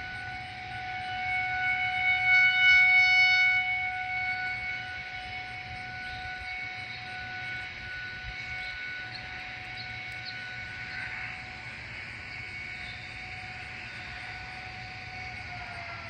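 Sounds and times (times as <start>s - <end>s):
distant warning siren: 0.0s - 16.0s.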